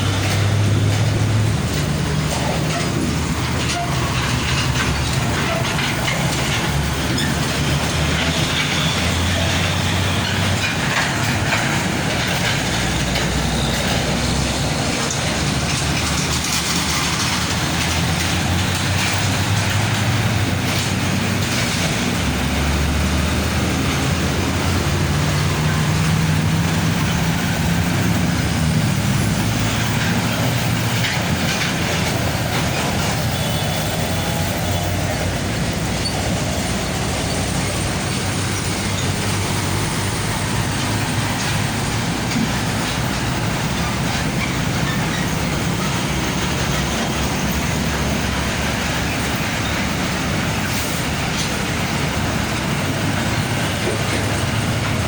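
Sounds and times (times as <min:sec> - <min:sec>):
heavy trucks passing: 0:00.0 - 0:55.0.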